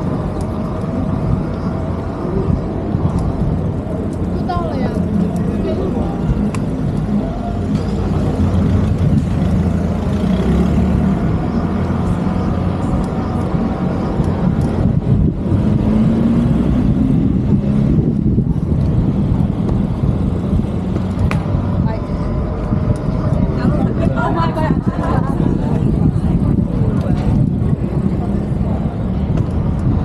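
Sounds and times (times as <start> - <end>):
vehicle engines rumbling: 0.0 - 30.0.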